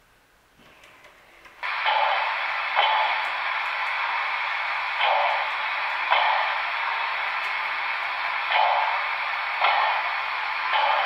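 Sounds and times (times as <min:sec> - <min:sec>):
model locomotive steam hiss: 0:01.6 - 0:11.0.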